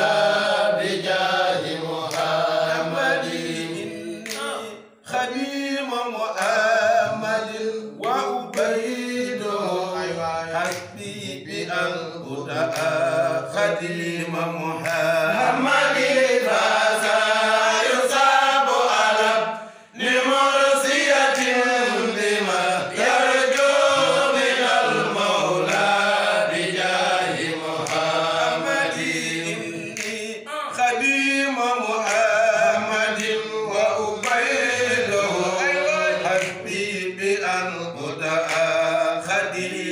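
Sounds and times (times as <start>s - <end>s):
men chanting unaccompanied: 0.0s - 39.9s.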